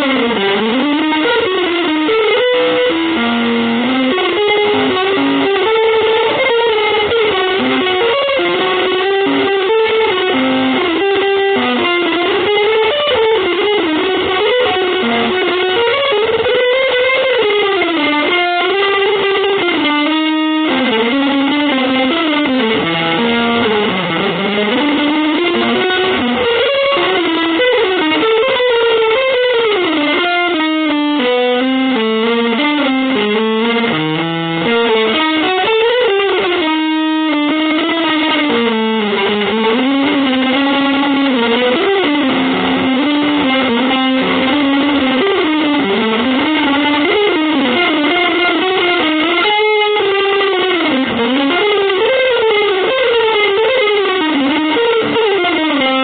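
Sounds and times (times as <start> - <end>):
electric guitar free jazz: 0.0 - 56.0.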